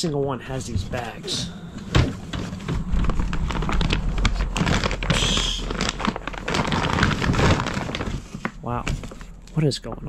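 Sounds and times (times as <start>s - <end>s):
plastic bags crinkling: 0.5s - 9.8s.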